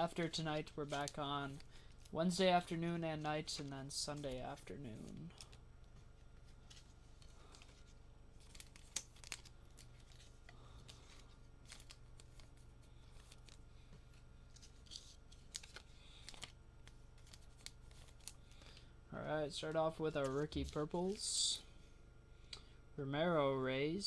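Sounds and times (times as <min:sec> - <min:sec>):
trading cards clicking and rustling: 0:00.0 - 0:18.9, 0:20.1 - 0:21.2
low steady hum: 0:00.0 - 0:24.0.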